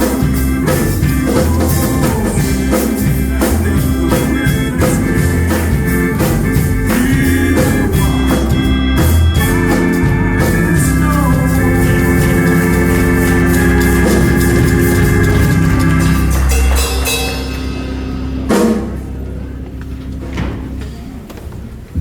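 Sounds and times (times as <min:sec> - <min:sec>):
drums: 0:00.0 - 0:22.0
organ playing held chords: 0:00.0 - 0:22.0.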